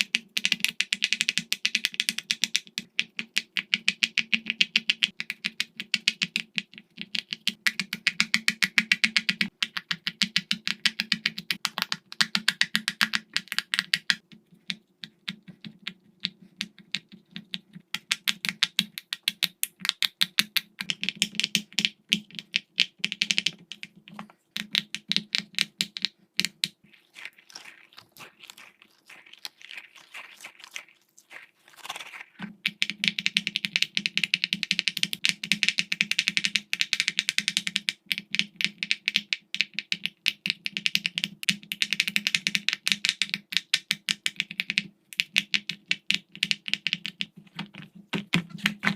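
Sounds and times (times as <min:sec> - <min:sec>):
fidget toy bubbles popping: 0:00.0 - 0:48.9.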